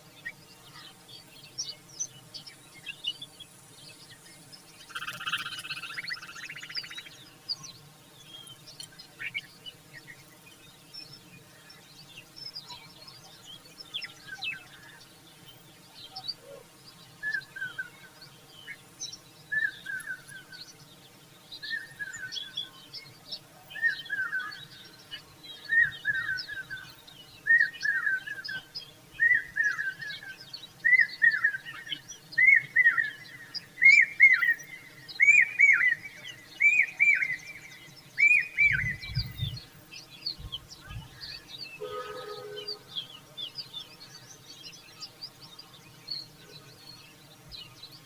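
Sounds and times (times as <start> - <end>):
faint high chirping: 0.0 - 48.0.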